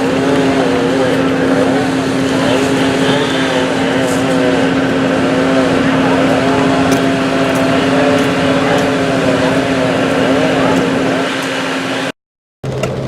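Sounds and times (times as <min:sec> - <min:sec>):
steady hum: 0:00.0 - 0:12.2
car engine: 0:00.0 - 0:13.0
road noise: 0:00.0 - 0:13.0.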